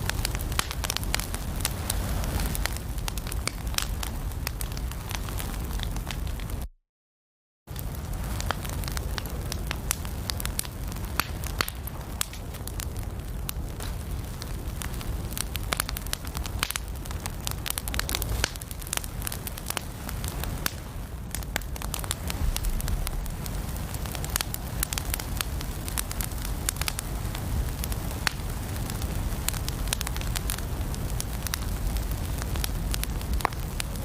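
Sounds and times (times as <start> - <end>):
low rumble of flames: 0.0 - 6.7, 7.7 - 34.0
wood fire crackling and popping: 0.0 - 6.7, 7.7 - 34.0.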